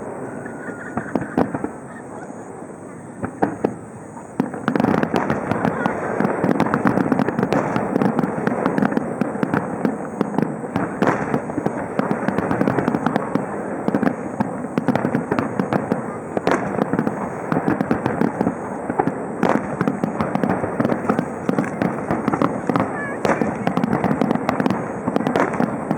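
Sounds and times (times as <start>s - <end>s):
fireworks bangs: 0.0s - 25.9s
fireworks crackling and popping: 0.0s - 25.9s.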